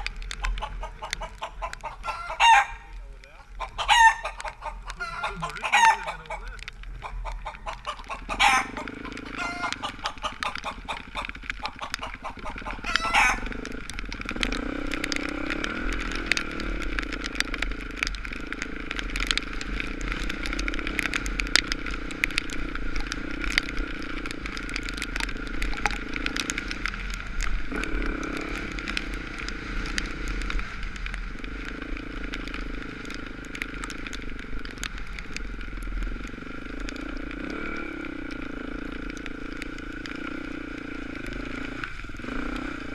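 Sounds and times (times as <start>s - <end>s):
dirt bike engine running: 0.0s - 42.9s.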